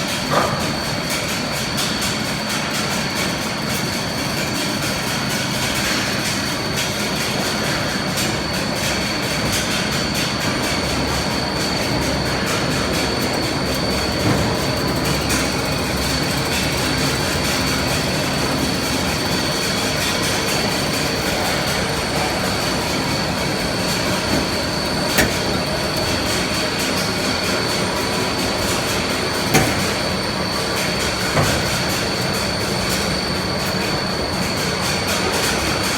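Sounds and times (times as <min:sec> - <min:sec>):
wire drawing machine running: 0:00.0 - 0:35.9.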